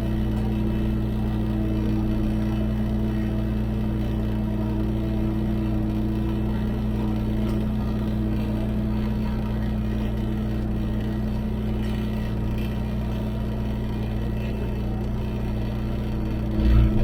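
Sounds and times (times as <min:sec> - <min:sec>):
skid steer diesel engine running: 0:00.0 - 0:17.0.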